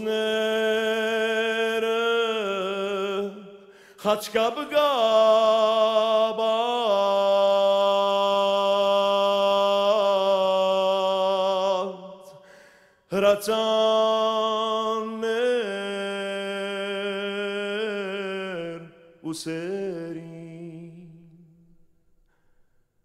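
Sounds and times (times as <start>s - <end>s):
man singing unaccompanied: 0.0s - 12.3s, 13.1s - 21.6s.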